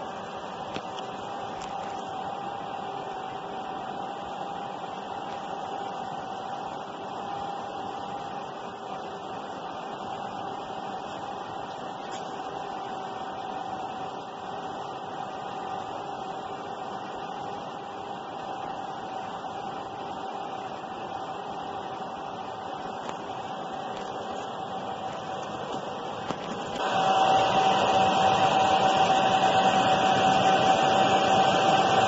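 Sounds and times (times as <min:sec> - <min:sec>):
shrink tunnel machine whirring: 0:00.0 - 0:32.0.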